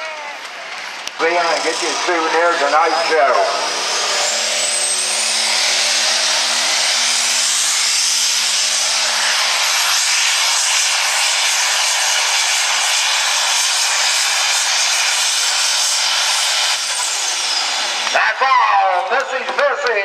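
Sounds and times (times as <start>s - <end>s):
diesel engine at full throttle: 0.4s - 20.0s.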